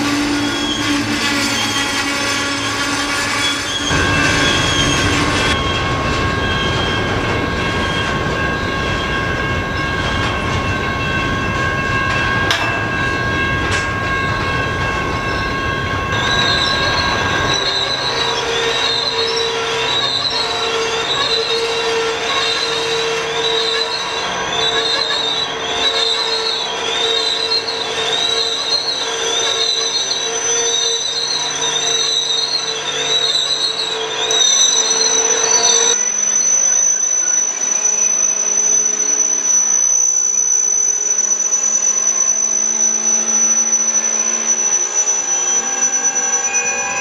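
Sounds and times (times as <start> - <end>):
high-pitched wheel squeal: 0.0 - 47.0
train wheels rumbling and clattering: 0.0 - 47.0.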